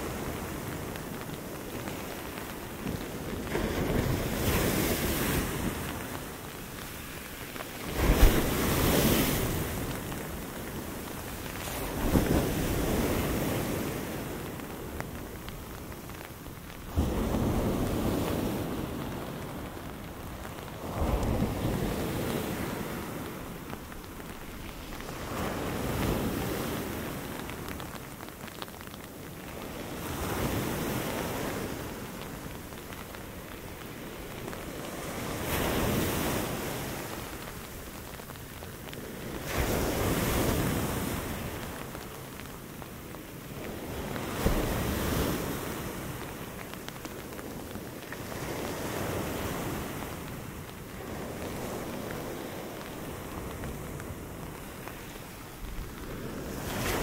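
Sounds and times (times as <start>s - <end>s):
rain and wind hiss: 0.0s - 57.0s
surf crashing on beach: 0.0s - 57.0s
waves breaking and washing up: 0.0s - 57.0s.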